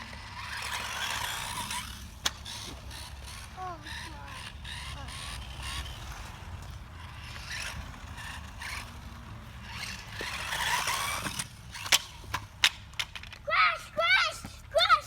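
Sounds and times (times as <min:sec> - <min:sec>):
tyres scraping and crunching: 0:00.0 - 0:13.5.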